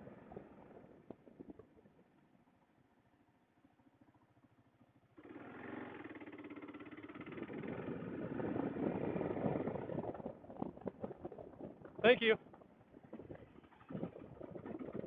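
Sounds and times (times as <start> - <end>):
motorcycle engine starting and running: 0.0 - 15.0.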